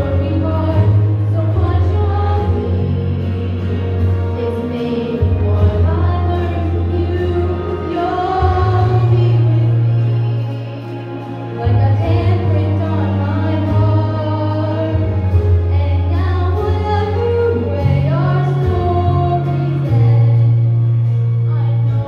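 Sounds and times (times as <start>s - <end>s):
girl singing into a microphone: 0.0s - 3.8s, 4.4s - 11.0s, 11.6s - 20.6s
backing track through speakers: 0.0s - 22.0s.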